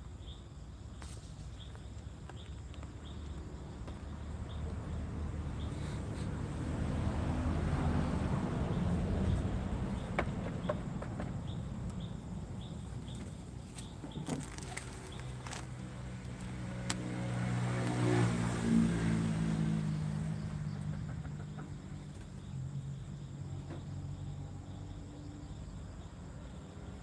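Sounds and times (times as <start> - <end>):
vehicle engine passing by: 3.0 - 25.7.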